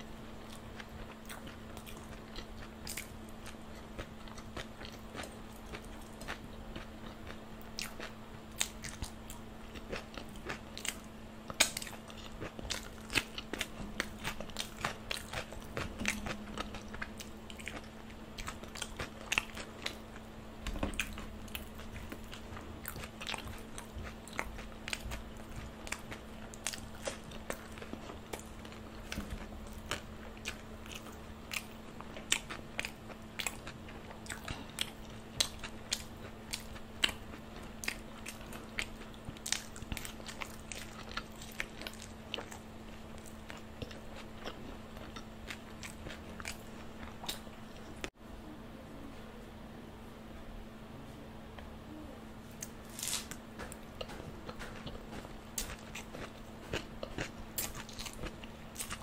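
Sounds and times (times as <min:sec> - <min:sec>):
crunchy food chewing: 0:00.0 - 0:48.1, 0:52.4 - 0:59.0.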